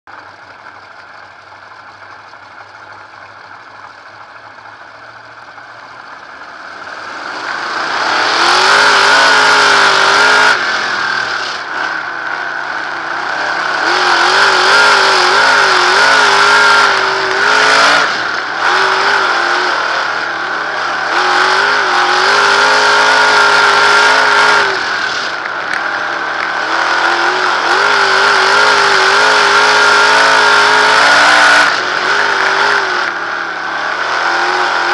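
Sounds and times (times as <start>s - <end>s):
race car engine revving: 3.6s - 34.9s.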